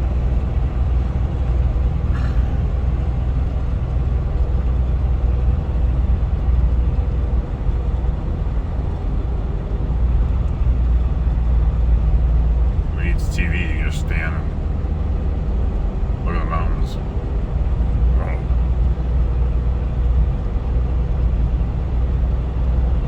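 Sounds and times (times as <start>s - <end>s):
engine rumbling: 0.0s - 23.0s.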